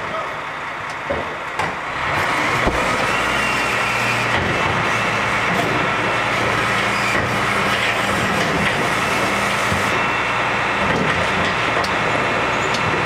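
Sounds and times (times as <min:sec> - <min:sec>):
lorry engine running: 0:00.2 - 0:13.0.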